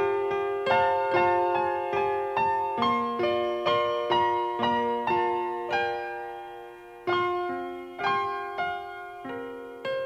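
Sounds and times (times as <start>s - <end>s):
slow piano notes: 0.0s - 10.0s.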